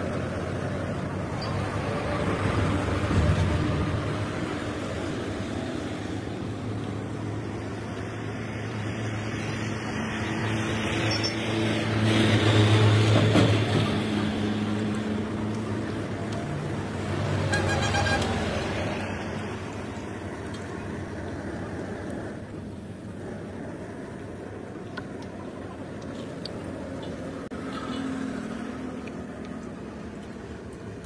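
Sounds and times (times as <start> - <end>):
road traffic passing: 0.0 - 31.0.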